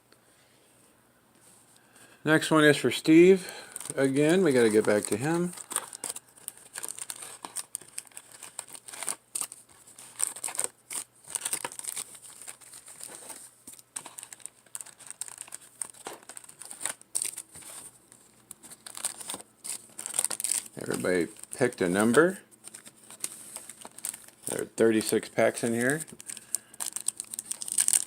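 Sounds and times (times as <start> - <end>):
wrapper crinkling and tearing: 2.9 - 28.0.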